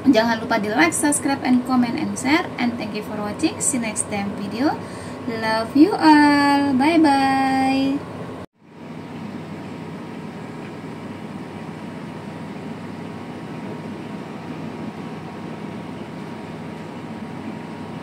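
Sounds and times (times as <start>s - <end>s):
whirring machine hum: 0.0s - 18.0s.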